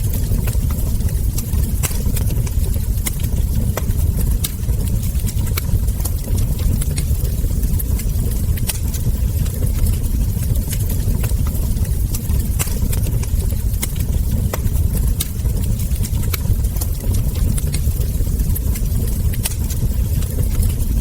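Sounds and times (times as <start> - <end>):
burning logs popping: 0.0 - 21.0
low fire rumble: 0.0 - 21.0.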